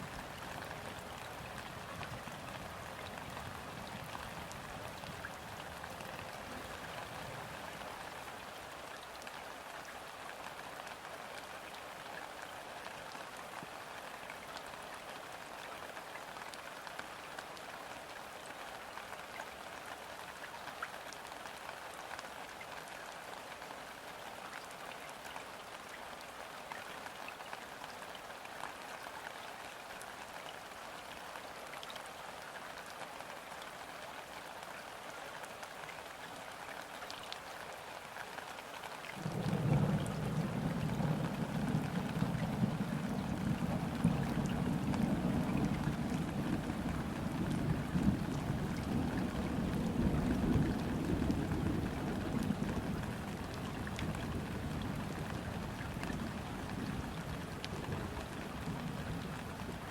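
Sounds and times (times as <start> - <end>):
rain falling on river: 0.0 - 59.9.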